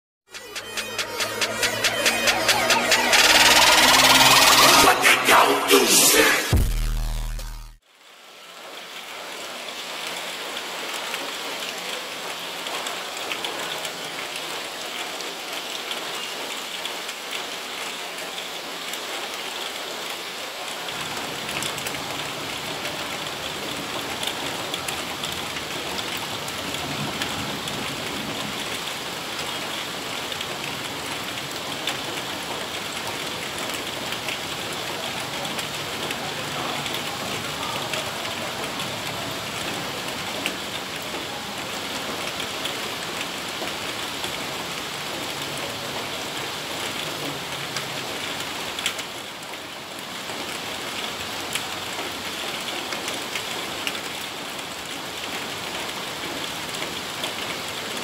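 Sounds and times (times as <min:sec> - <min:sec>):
heavy rain pouring: 0:00.3 - 0:58.0.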